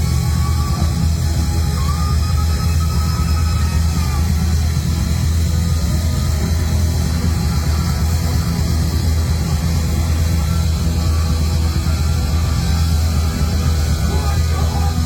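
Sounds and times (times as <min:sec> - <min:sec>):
live band playing heavy rock: 0:00.0 - 0:15.0.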